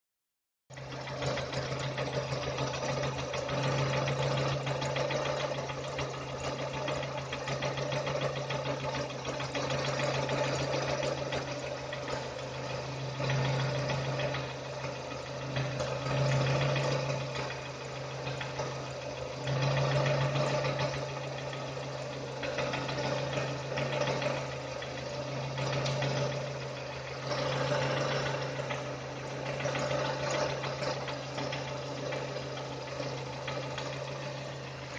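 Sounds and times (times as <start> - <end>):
car engine idling with knock: 0.7 - 34.9.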